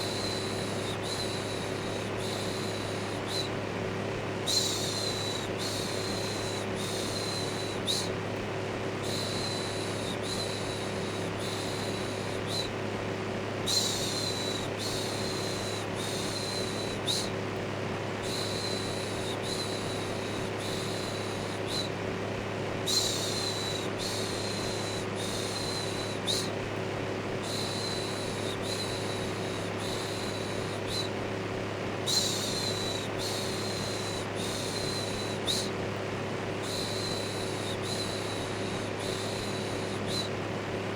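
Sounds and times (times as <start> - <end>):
electric fan whirring: 0.0 - 40.9.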